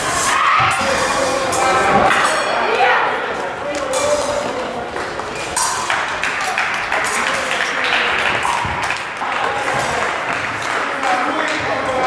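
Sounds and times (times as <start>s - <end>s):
crowd voices in hall: 0.0s - 12.0s.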